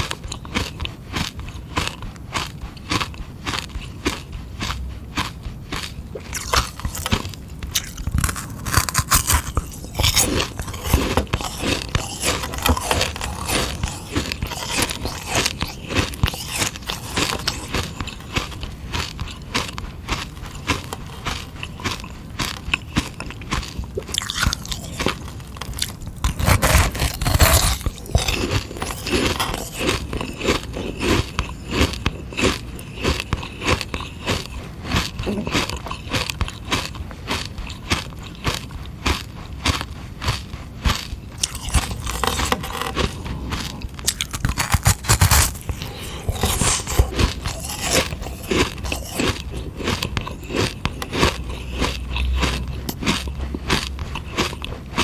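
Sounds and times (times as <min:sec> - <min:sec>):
crunchy chewing of ice pop: 0:00.0 - 0:55.0.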